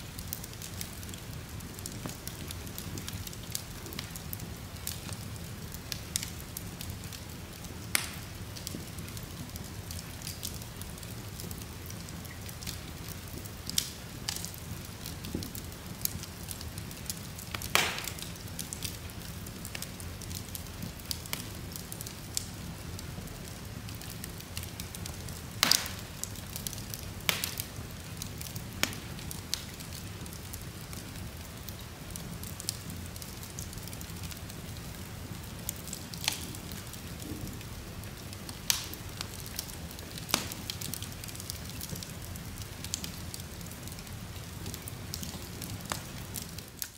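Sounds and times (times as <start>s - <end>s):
fire burning with crackles: 0.0s - 46.9s.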